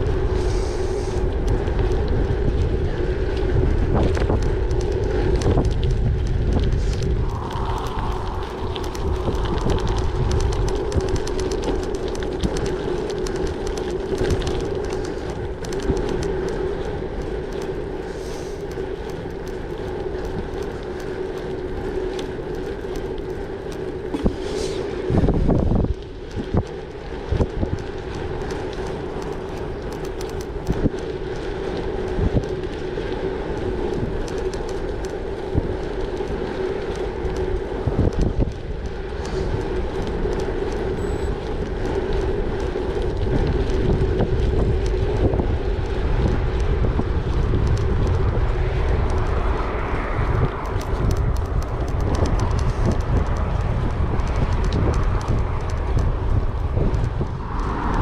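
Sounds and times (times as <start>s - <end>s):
bike tyres humming: 0.0s - 58.0s
wind buffeting microphone: 0.0s - 58.0s.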